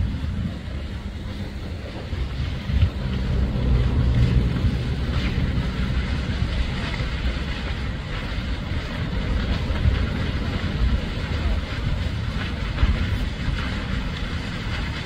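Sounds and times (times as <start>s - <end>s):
fire crackling: 0.0s - 15.0s
grass fire roaring: 0.0s - 15.0s.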